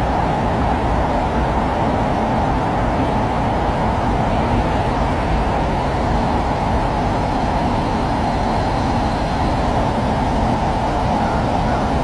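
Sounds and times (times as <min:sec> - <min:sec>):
car cabin noise while driving: 0:00.0 - 0:12.0.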